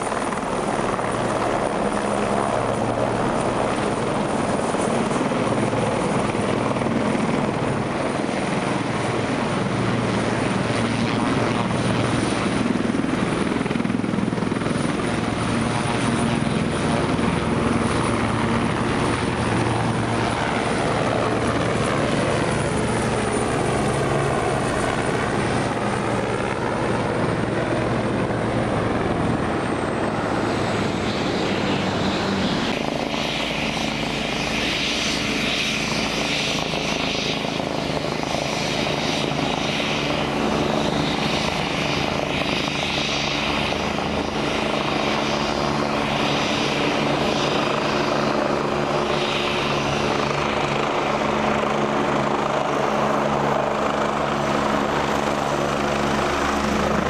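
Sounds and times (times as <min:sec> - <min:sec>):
helicopter flying overhead: 0:00.0 - 0:57.0
helicopter hovering turbine whine: 0:00.0 - 0:57.0.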